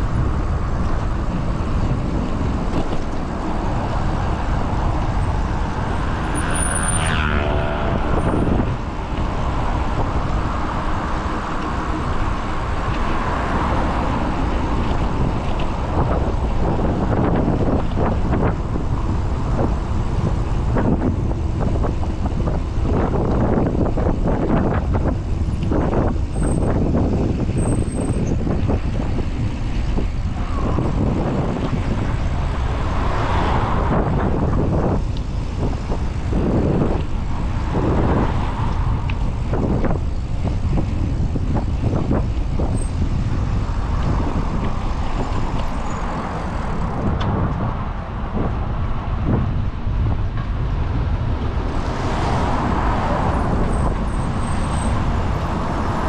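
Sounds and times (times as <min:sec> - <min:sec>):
road traffic passing: 0:00.0 - 0:56.0
wind rushing over microphone: 0:00.0 - 0:56.0.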